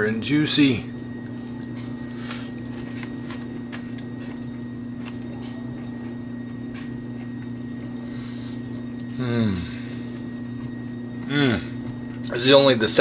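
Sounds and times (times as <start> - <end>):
low electrical hum: 0.0 - 13.0
person chewing: 1.2 - 12.3.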